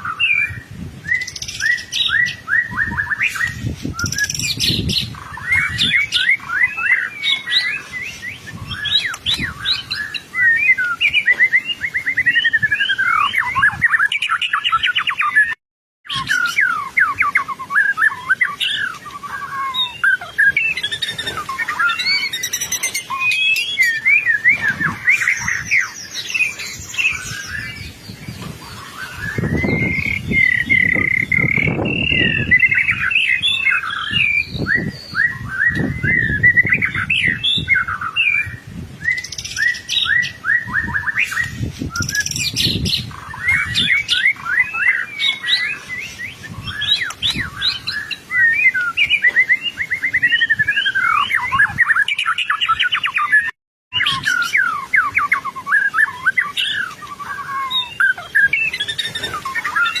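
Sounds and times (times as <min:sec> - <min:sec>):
songbird whistles and trills: 0:00.0 - 1:00.0.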